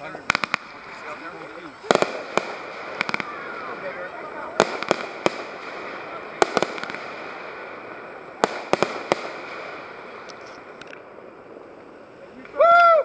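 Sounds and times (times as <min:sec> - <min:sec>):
fireworks bangs: 0:00.0 - 0:12.6
steady hiss: 0:00.0 - 0:13.0.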